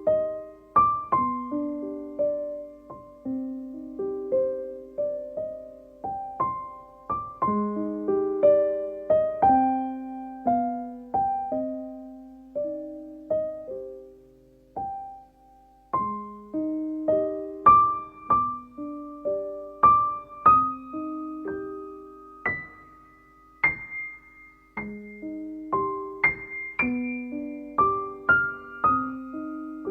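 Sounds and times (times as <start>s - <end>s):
gentle piano melody: 0.0s - 29.9s.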